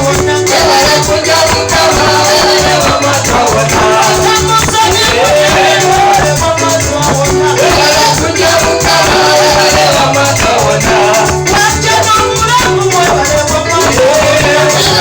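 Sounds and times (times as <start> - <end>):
church praise music: 0.0 - 15.0.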